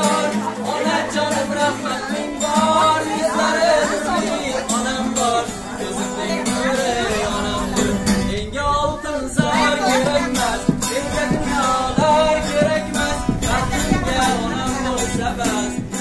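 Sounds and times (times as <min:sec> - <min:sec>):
acoustic guitar strumming: 0:00.0 - 0:16.0
man singing: 0:00.0 - 0:16.0.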